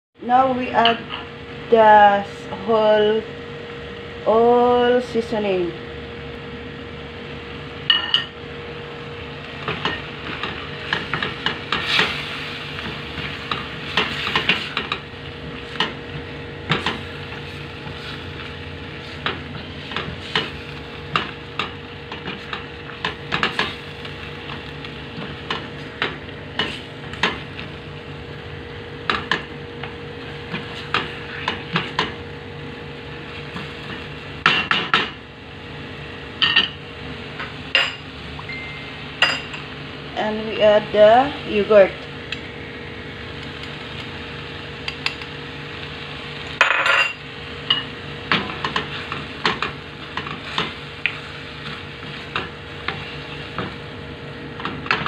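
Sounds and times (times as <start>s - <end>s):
frying sizzle: 0.2s - 55.0s
low steady hum: 0.2s - 55.0s.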